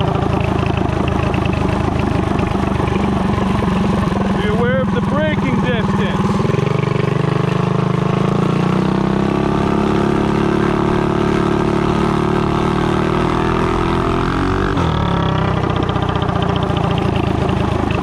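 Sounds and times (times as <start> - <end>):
mini bike engine running: 0.0 - 18.0.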